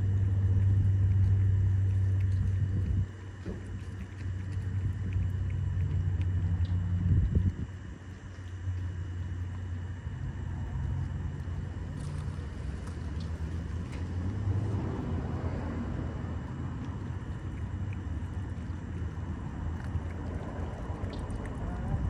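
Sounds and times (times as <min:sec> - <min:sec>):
cats chewing and licking food: 0:00.0 - 0:22.0
low mechanical rumble: 0:00.0 - 0:22.0.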